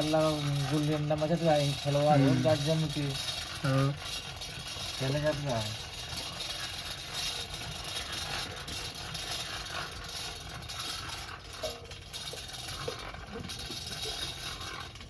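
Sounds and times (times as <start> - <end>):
motor-like running noise: 0.0 - 15.0.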